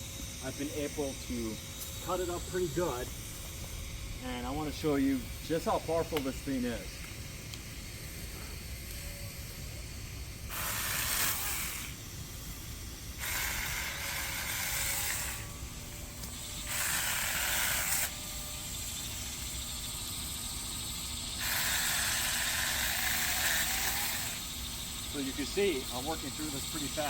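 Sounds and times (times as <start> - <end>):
electric chainsaw cutting wood: 0.0 - 27.0.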